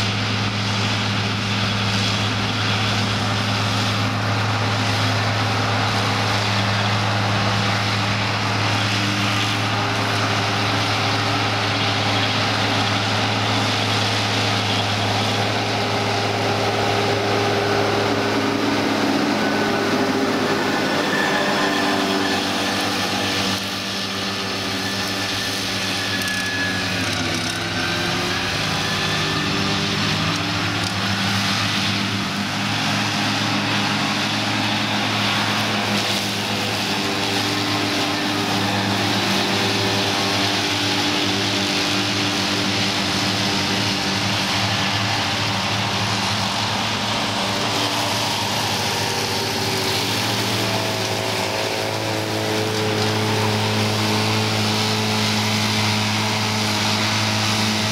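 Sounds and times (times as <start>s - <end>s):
disc mowers cutting grass: 0.0s - 57.9s
tractor diesel engines under load: 0.0s - 57.9s.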